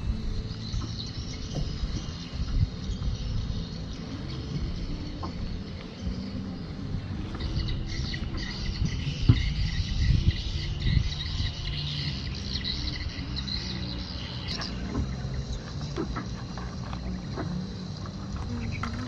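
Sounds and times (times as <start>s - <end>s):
birds chirping: 0.0s - 19.0s
low rumble: 0.0s - 19.0s.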